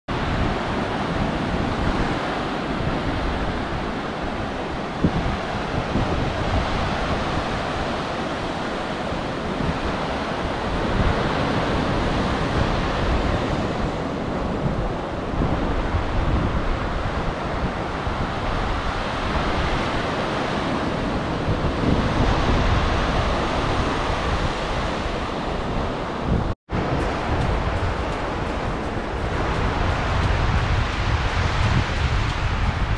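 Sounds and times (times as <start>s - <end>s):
small waves washing up beach: 0.1s - 32.9s.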